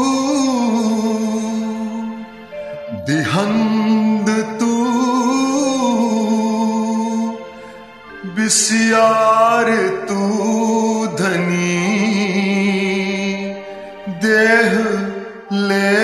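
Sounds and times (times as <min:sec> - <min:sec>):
instrumental backing track: 0:00.0 - 0:16.0
man singing: 0:00.0 - 0:16.0.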